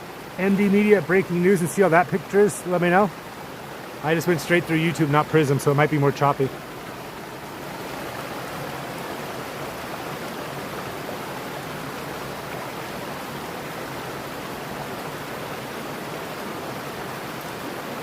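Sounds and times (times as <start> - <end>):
stream running over rocks: 0.0 - 18.0.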